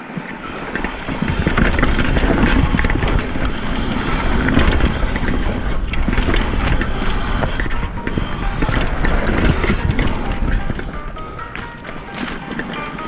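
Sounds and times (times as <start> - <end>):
bike tyre noise: 0.0 - 13.0
wind rushing over microphone: 0.0 - 13.0
bike rattling knocks: 0.5 - 13.0.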